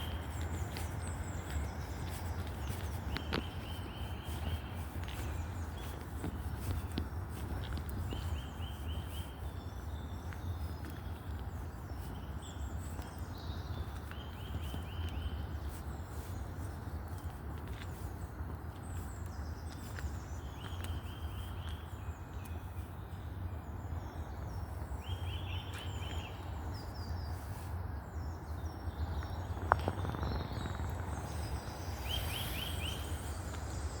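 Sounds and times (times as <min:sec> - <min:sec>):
birds singing: 0:00.0 - 0:34.0.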